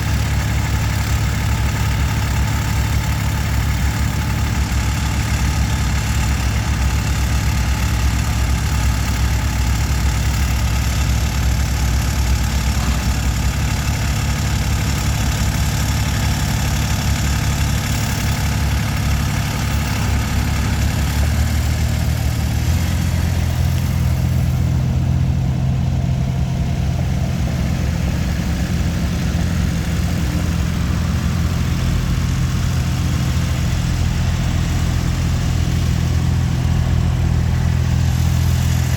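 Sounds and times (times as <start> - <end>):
loader engine running: 0.0 - 38.9.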